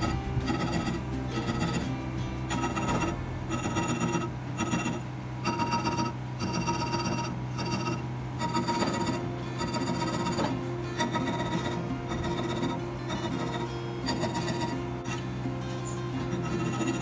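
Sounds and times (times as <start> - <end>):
file scraping knife: 0.0 - 1.8, 2.5 - 15.2, 16.2 - 17.0
steady low hum: 0.0 - 17.0.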